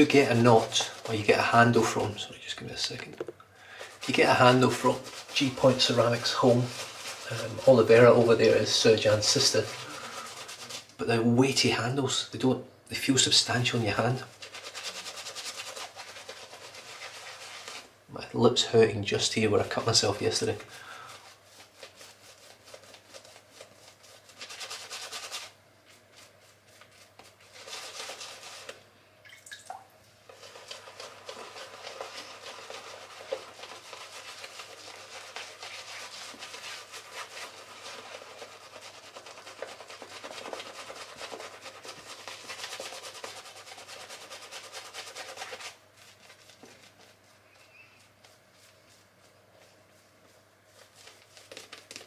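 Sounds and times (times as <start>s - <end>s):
shaving brush lathering face: 0.0s - 2.2s, 3.8s - 11.0s, 13.5s - 17.9s, 19.2s - 28.8s, 30.2s - 52.0s.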